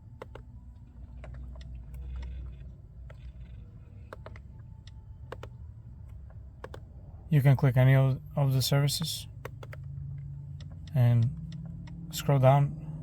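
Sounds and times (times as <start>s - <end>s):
steering wheel buttons clicking: 0.0s - 6.9s, 8.5s - 12.6s
low steady hum: 0.0s - 13.0s.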